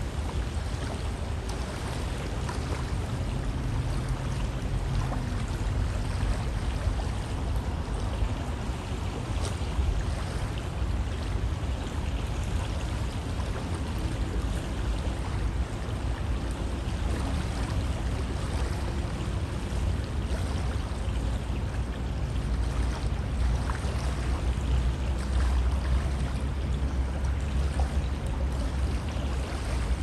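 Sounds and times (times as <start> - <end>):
river water rushing: 0.0 - 30.0
water splashes and trickles: 0.0 - 30.0.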